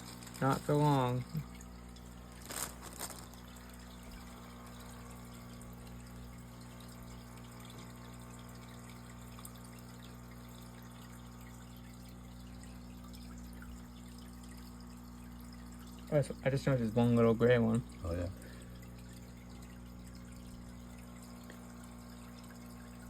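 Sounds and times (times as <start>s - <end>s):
water trickling: 0.0s - 23.0s.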